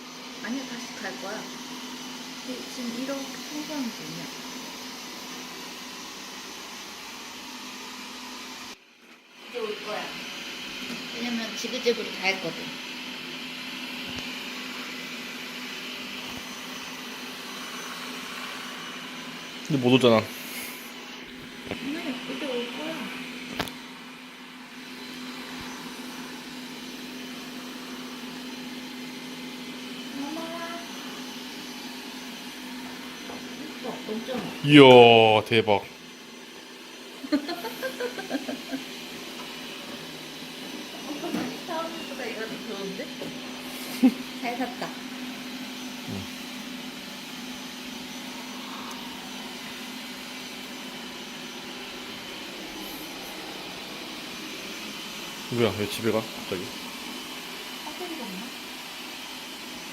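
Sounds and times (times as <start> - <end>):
robot vacuum motor hum: 0.0 - 8.8, 9.4 - 59.9.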